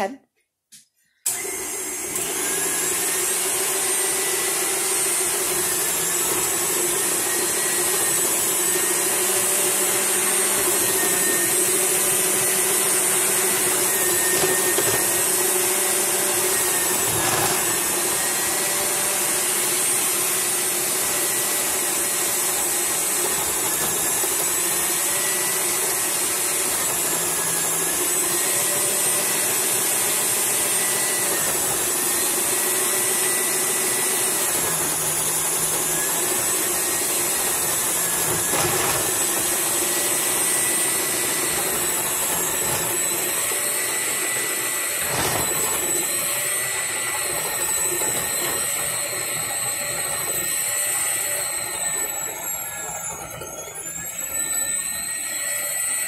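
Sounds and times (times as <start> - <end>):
food processor motor whine: 1.0 - 56.0.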